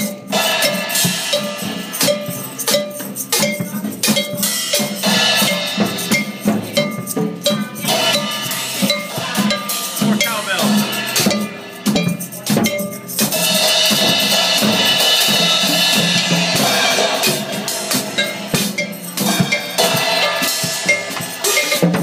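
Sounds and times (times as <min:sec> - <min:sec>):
loud drumming and percussion: 0:00.0 - 0:22.0.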